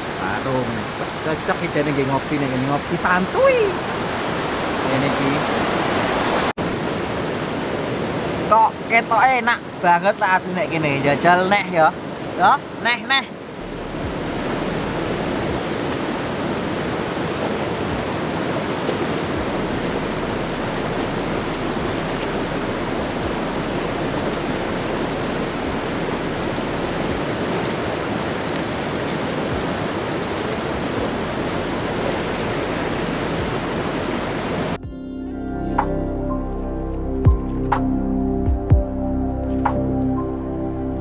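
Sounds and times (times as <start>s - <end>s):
river flowing over rocks: 0.0s - 34.8s.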